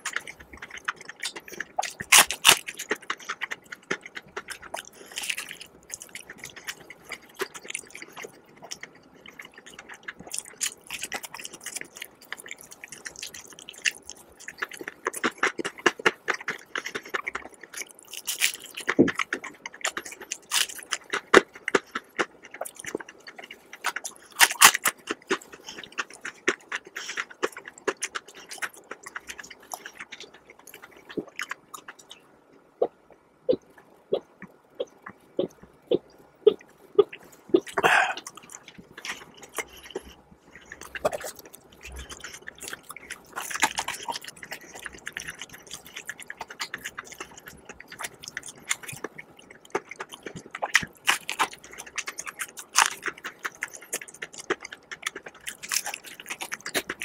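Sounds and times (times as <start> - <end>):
chewing crispy chicken: 0.0 - 57.0.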